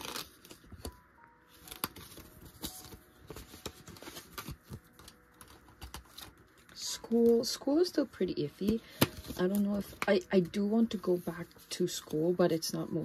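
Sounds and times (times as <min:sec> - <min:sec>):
banknotes and envelopes rustling: 0:00.0 - 0:13.0.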